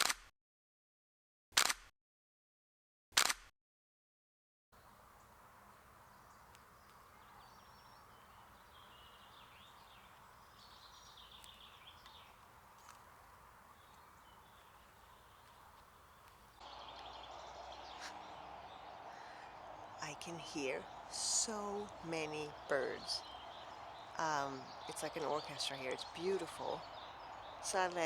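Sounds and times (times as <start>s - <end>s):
birds chirping: 4.8s - 28.0s
distant road traffic hum: 4.8s - 28.0s.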